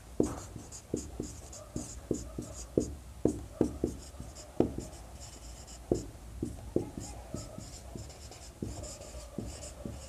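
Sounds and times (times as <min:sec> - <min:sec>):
marker writing on whiteboard: 0:00.2 - 0:10.0.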